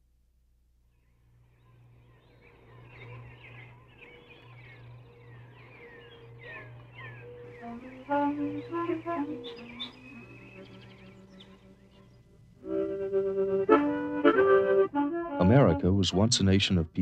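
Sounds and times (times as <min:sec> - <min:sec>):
low steady hum: 0:00.0 - 0:17.0
birds chirping: 0:00.9 - 0:17.0.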